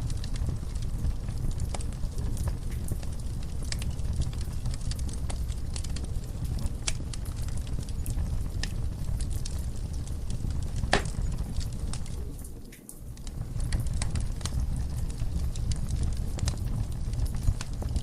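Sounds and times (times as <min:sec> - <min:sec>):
low rumble of flames: 0:00.0 - 0:18.0
wood fire crackling: 0:00.0 - 0:18.0.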